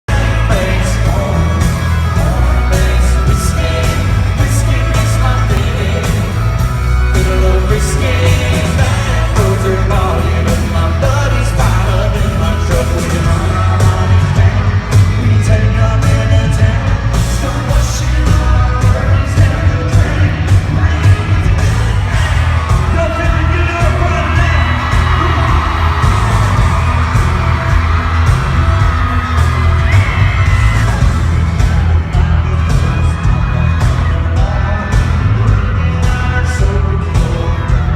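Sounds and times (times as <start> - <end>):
audience yelling and whooping: 0.1 - 37.9
live country band with singer: 0.1 - 37.9.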